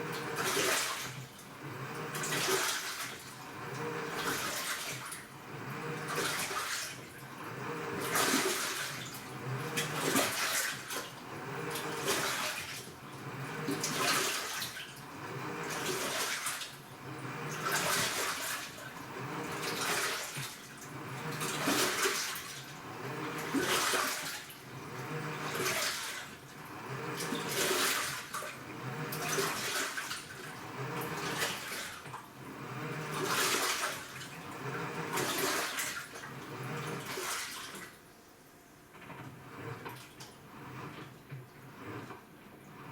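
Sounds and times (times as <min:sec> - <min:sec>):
washing machine motor hum: 0:00.0 - 0:42.9
washing machine sloshing water: 0:00.0 - 0:42.9.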